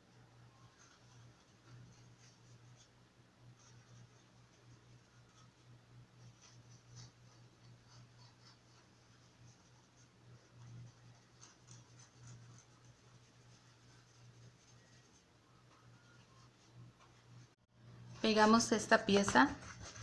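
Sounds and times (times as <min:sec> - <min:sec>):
low steady hum: 0:00.0 - 0:20.0
paintbrush dabbing on paper: 0:00.5 - 0:17.6, 0:19.0 - 0:20.0.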